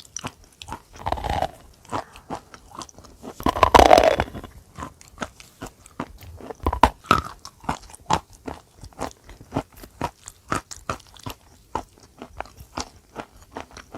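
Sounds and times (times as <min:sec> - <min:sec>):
chewing chalk crunches: 0:00.0 - 0:13.9.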